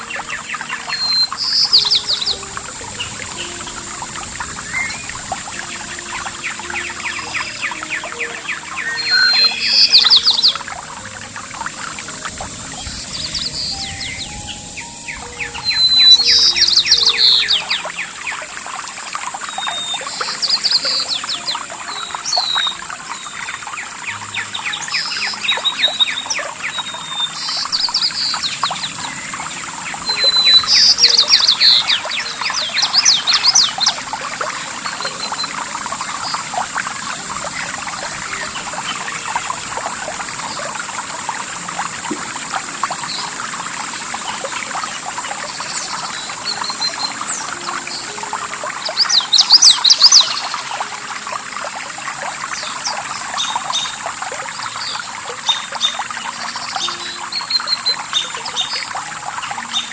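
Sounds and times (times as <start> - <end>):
songbirds singing: 0.0 - 59.9
water trickling and splashing: 0.0 - 59.9.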